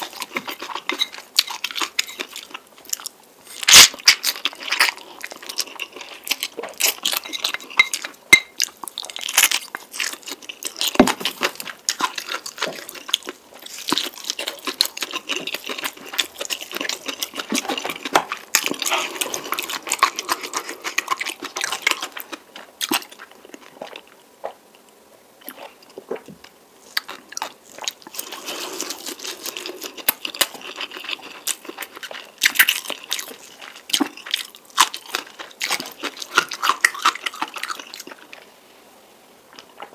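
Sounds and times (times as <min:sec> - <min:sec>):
chewing noodles wet mouth sounds: 0:00.0 - 0:38.4.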